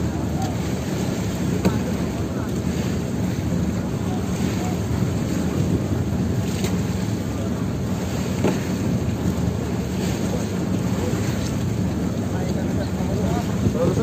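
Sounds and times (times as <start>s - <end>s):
boat engine humming: 0.0s - 14.0s
wind on microphone: 0.0s - 14.0s.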